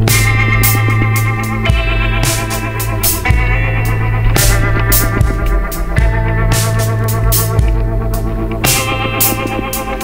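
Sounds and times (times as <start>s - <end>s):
bass note: 0.0s - 8.7s
keyboard chords: 0.0s - 10.0s.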